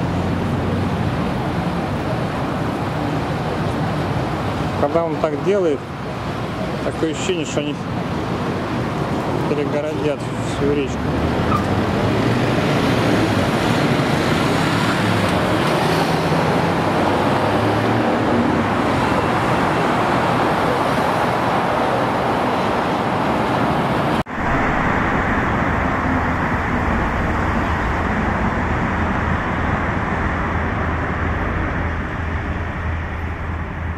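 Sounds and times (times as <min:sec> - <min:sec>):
cars passing on road: 0:00.0 - 0:33.9.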